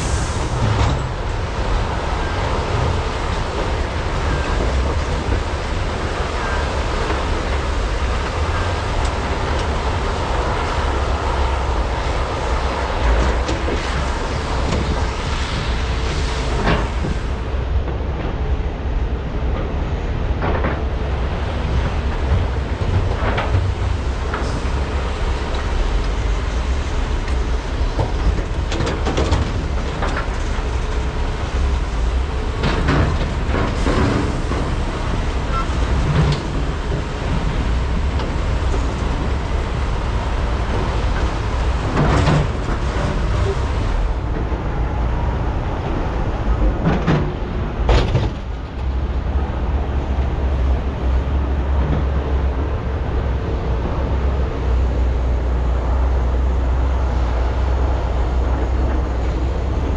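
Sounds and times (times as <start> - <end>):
excavator engines rumbling: 0.0 - 59.9.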